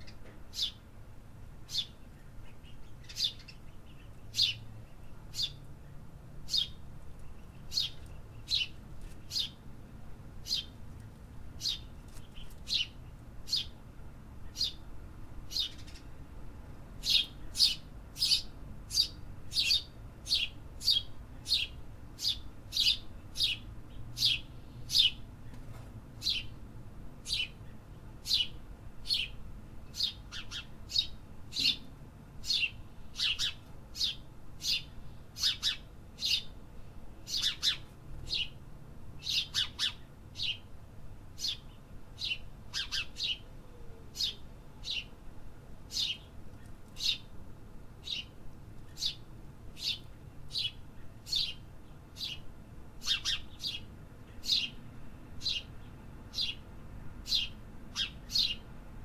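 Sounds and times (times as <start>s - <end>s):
bird chirping: 0.0s - 0.8s, 1.6s - 9.6s, 10.4s - 10.8s, 11.6s - 13.8s, 14.4s - 14.9s, 15.5s - 16.2s, 17.0s - 25.6s, 26.2s - 26.6s, 27.2s - 36.6s, 37.2s - 38.6s, 39.2s - 40.7s, 41.4s - 43.5s, 44.1s - 45.2s, 45.9s - 47.3s, 48.0s - 54.8s, 55.4s - 58.7s.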